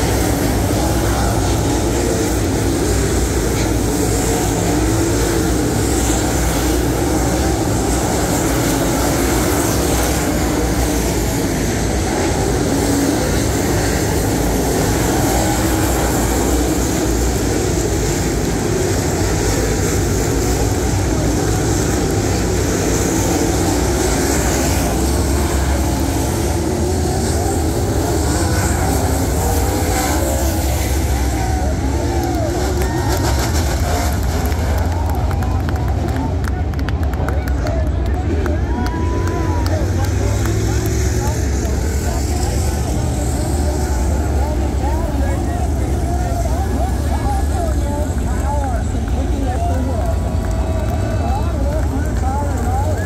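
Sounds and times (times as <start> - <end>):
race car engines running flat out: 0.0 - 53.0.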